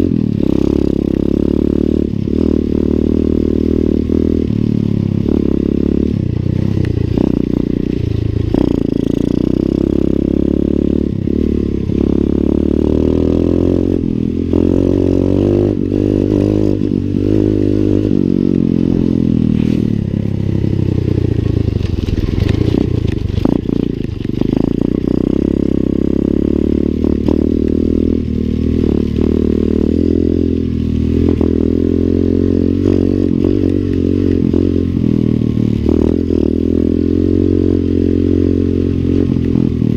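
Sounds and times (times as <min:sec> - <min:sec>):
pit bike engine running: 0:00.0 - 0:39.9.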